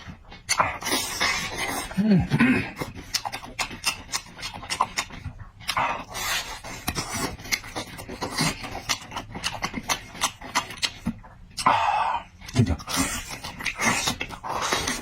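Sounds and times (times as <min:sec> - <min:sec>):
chewing and lip smacking: 0:00.0 - 0:15.0.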